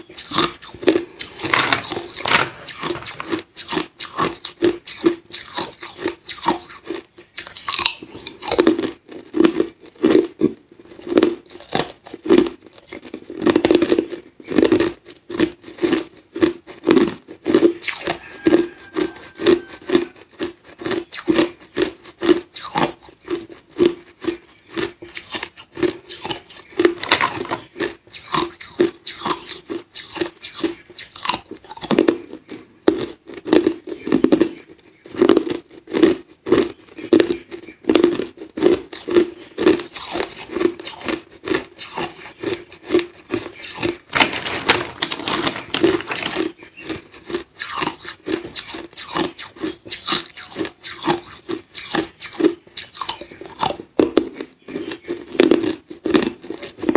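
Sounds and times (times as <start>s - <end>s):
ice crunching being chewed: 0.0s - 56.9s.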